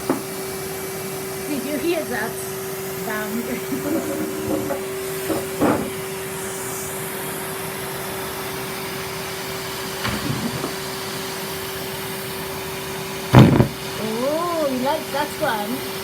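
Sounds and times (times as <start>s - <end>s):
vacuum cleaner humming: 0.0s - 16.0s.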